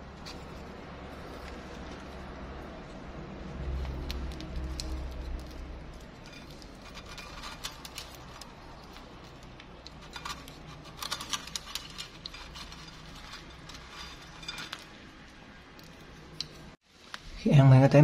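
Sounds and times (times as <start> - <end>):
crisp food crackling: 0.2 - 17.2.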